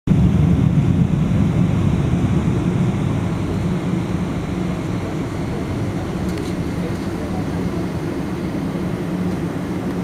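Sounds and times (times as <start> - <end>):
aircraft cabin rumble while taxiing: 0.1 - 10.0.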